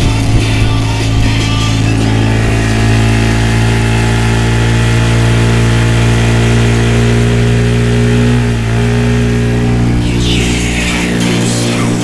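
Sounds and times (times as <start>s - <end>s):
outboard motor running: 0.0s - 12.0s
water splashing along hull: 0.0s - 12.0s.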